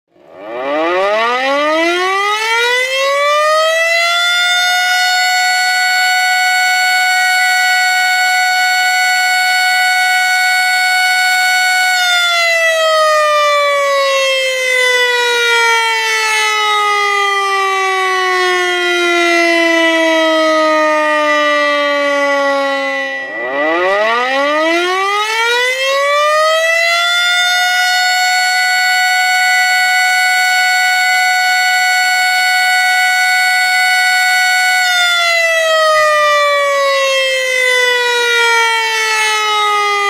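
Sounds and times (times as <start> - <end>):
warning siren wailing: 0.1 - 40.0.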